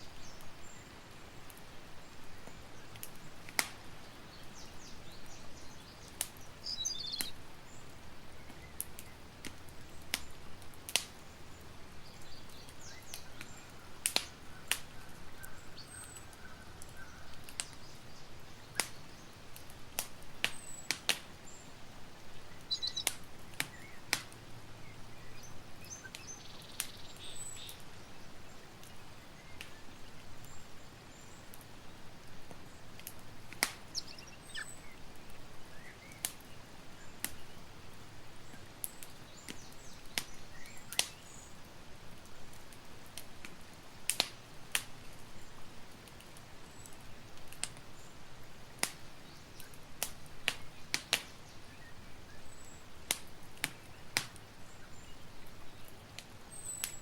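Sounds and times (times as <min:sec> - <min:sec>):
campfire crackling and popping: 0:00.0 - 0:57.0
soft hiss of burning: 0:00.0 - 0:57.0.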